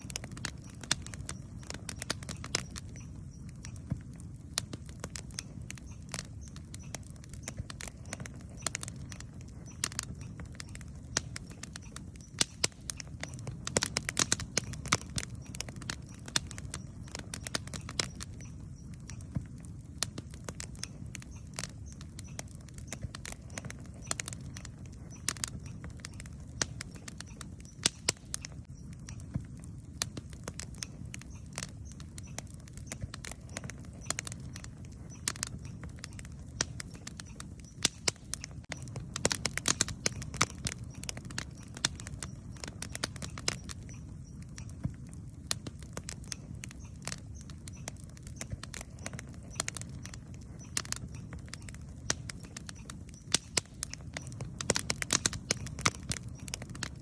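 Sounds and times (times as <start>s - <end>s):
campfire crackling and popping: 0.0s - 57.0s
low rumble of flame: 0.0s - 57.0s.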